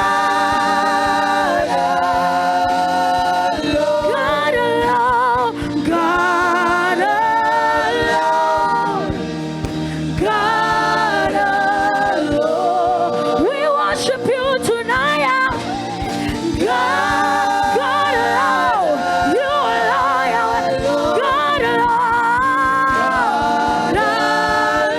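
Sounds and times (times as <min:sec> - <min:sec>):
accompaniment with a beat: 0:00.0 - 0:24.9
gospel singing voices: 0:00.0 - 0:24.9.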